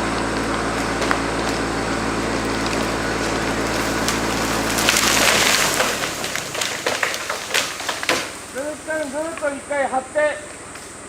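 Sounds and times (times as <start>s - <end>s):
breaking wood snapping: 0.0s - 9.6s
tree trunk cracking and splintering: 0.0s - 9.9s
engine running: 0.0s - 11.0s.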